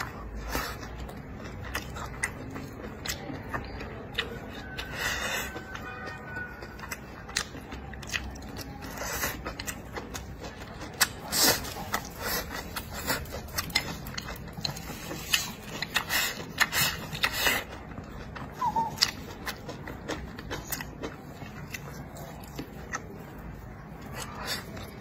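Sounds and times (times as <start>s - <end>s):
chewing with wet mouth smacks: 0.0s - 25.0s.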